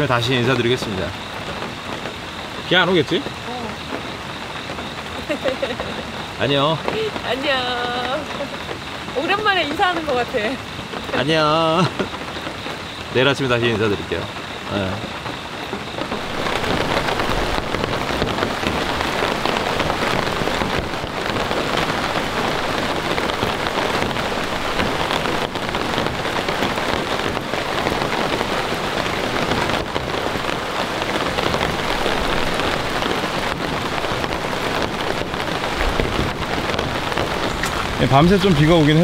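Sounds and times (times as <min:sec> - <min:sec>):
close raindrops striking: 0:00.0 - 0:39.0
rain falling: 0:00.0 - 0:39.0.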